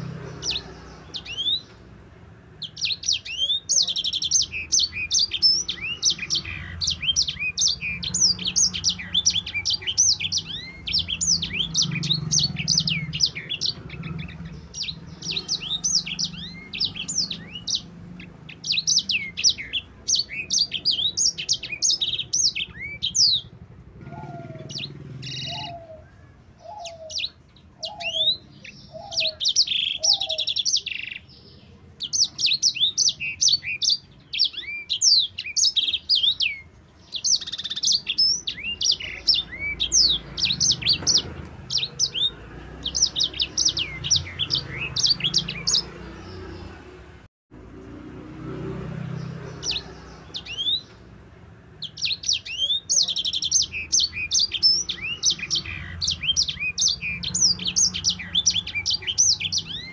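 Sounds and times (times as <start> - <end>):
finch singing: 0.0 - 47.2, 48.8 - 59.9.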